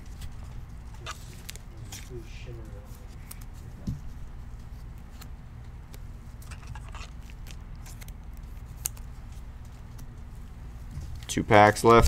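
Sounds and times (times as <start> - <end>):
trading cards rustling: 0.0 - 12.0.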